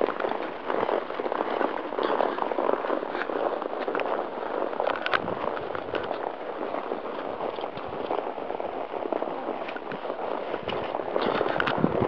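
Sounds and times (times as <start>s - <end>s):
camera microphone rustling: 0.0s - 12.0s.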